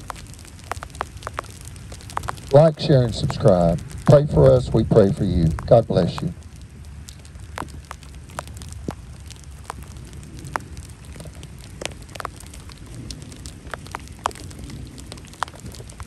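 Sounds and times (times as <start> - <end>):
low rumble: 0.0 - 16.0
rain falling: 0.0 - 16.0
raindrops tapping: 0.0 - 16.0.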